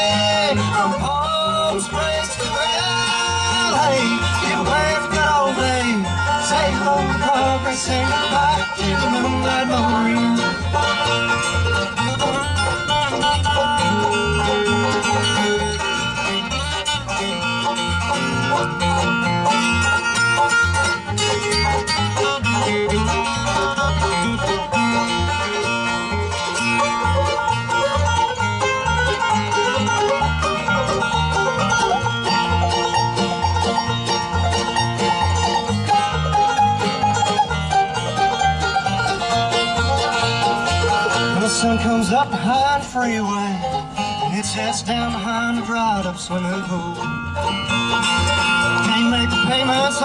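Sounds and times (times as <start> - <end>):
acoustic guitar: 0.0 - 50.0
banjo picking: 0.0 - 50.0
mandolin: 0.0 - 50.0
steady bass beat: 0.1 - 42.6.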